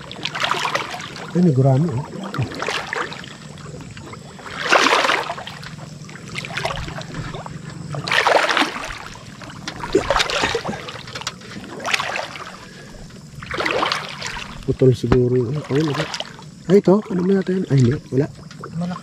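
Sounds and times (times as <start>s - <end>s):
person wading through water: 0.0s - 19.0s.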